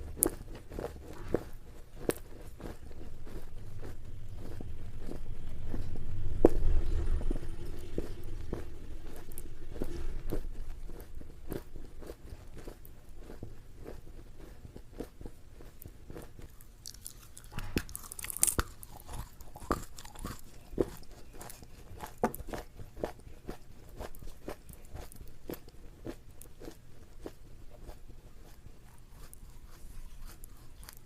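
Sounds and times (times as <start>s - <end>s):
chewing crunchy food: 0.0s - 31.0s.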